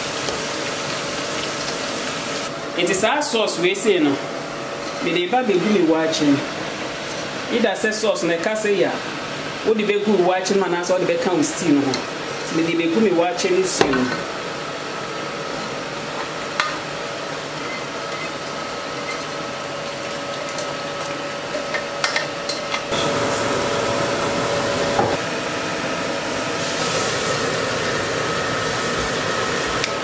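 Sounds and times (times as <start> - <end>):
kitchen hum with faint tone: 0.0 - 30.0.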